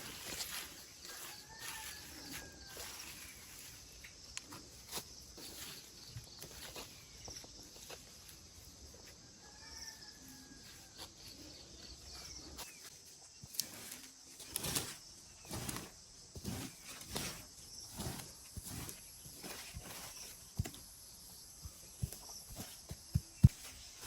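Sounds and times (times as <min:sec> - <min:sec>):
garden clearing strokes: 0:00.0 - 0:24.0.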